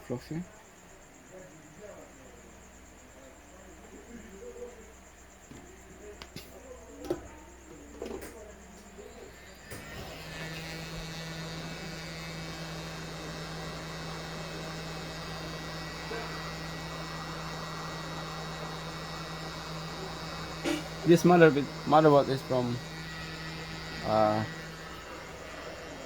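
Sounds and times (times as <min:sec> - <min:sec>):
hot-air blower humming and hissing: 0:03.9 - 0:26.0.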